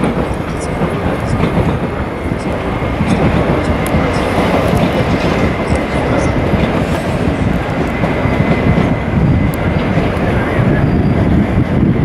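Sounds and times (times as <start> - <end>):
train rumble and wheel clatter: 0.0 - 12.0.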